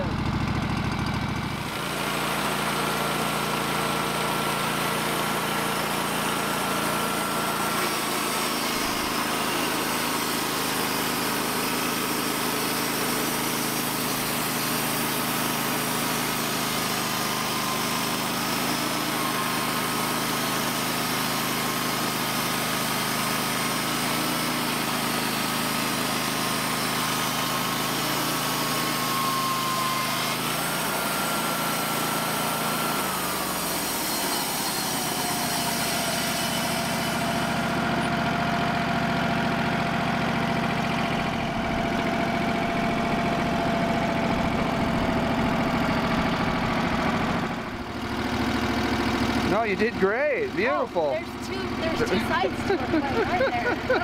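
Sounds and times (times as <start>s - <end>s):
saw blade whining through log: 0.0s - 54.0s
sawmill engine running: 0.0s - 54.0s.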